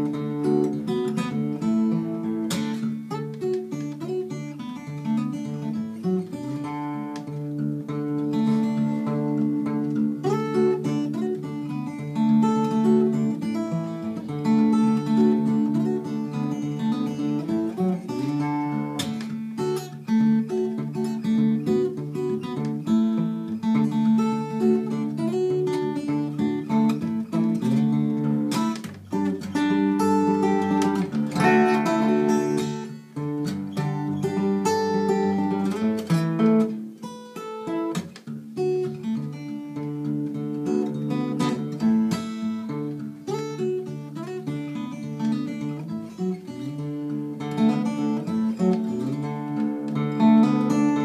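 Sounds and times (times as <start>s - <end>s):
fingerstyle acoustic guitar: 0.0s - 51.0s.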